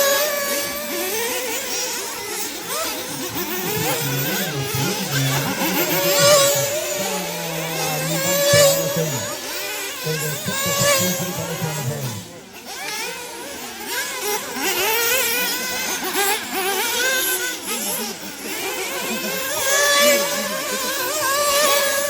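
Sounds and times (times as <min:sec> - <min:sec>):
rc car engines revving: 0:00.0 - 0:22.0.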